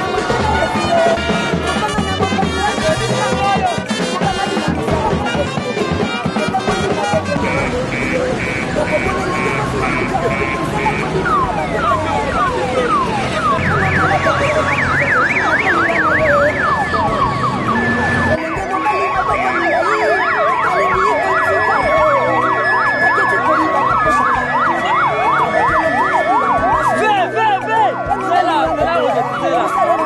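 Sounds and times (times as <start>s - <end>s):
sirens wailing: 0.0s - 30.0s
sirens yelping: 0.0s - 30.0s.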